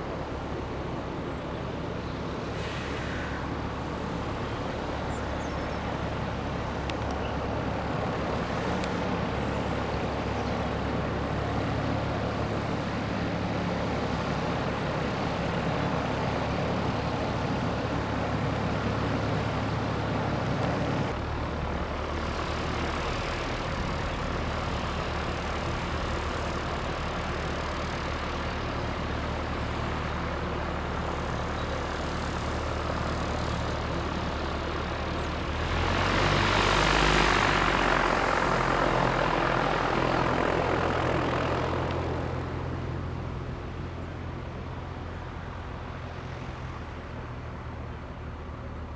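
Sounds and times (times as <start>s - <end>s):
low engine drone: 0.0s - 48.9s
outdoor noise: 0.0s - 48.9s.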